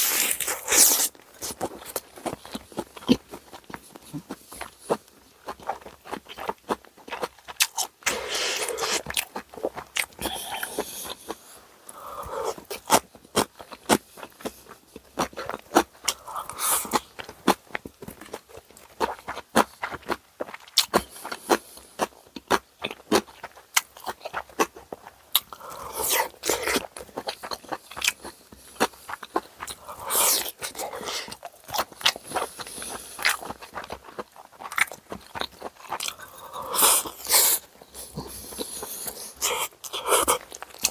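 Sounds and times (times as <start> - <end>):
crunchy bites: 0.0 - 14.6, 15.2 - 40.9
wet chewing: 0.0 - 40.9.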